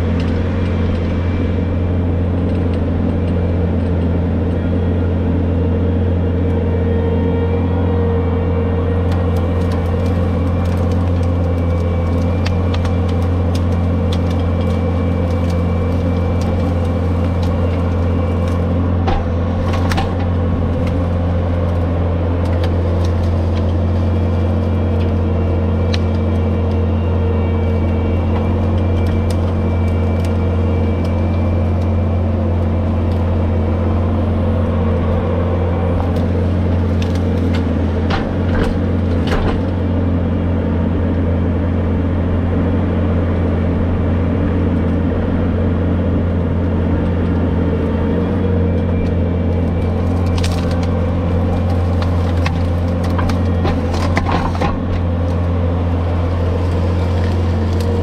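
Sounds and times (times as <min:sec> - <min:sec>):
loader with rotary cutter running: 0:00.0 - 0:58.0.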